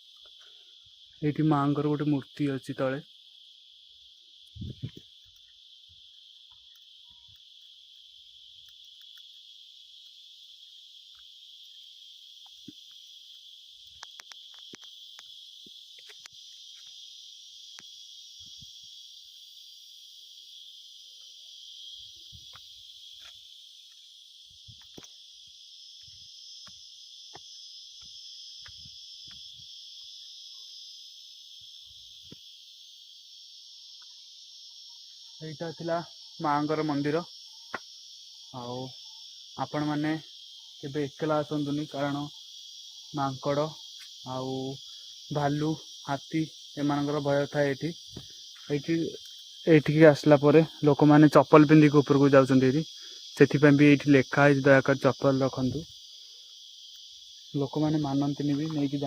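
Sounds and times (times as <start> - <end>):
insects shrilling: 0.0 - 59.0.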